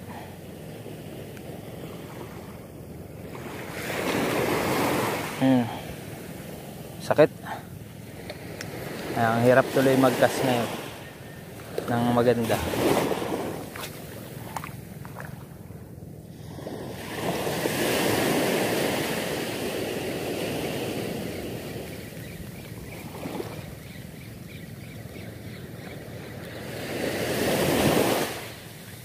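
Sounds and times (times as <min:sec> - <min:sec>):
small waves breaking on sand: 0:00.0 - 0:15.6, 0:16.2 - 0:29.0.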